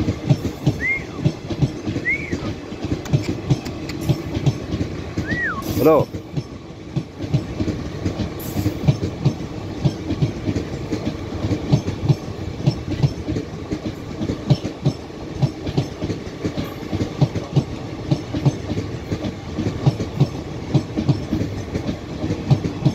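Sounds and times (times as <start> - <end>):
train rumble: 0.0 - 22.9
train wheels clickety-clack: 0.0 - 22.9.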